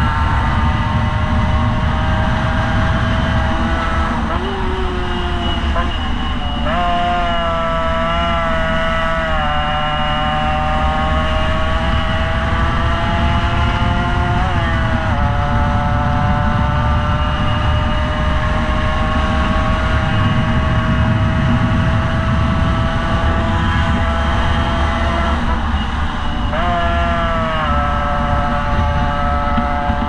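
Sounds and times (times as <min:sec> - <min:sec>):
motorcycle engine at full throttle: 0:00.0 - 0:30.0
wind noise: 0:00.0 - 0:30.0.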